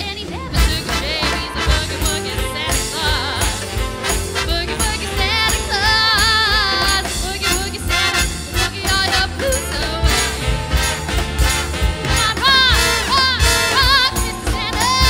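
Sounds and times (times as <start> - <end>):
big band swing music: 0.0 - 15.0
woman singing: 0.0 - 15.0.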